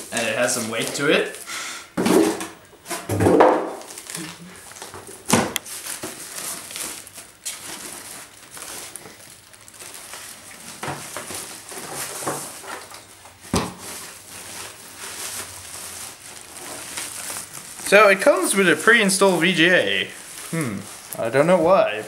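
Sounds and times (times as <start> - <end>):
plastic wrapping rustling and crinkling: 0.0 - 22.0
sharp plastic crackles: 3.2 - 22.0.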